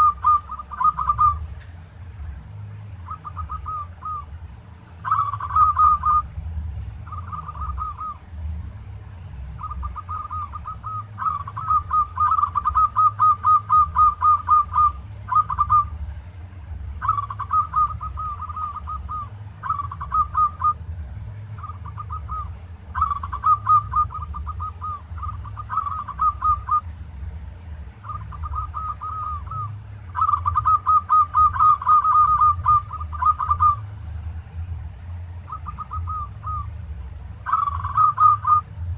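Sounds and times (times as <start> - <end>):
dove cooing: 0.0 - 1.6, 2.2 - 16.2, 16.9 - 27.0, 28.0 - 38.9
steady low hum: 0.0 - 38.9.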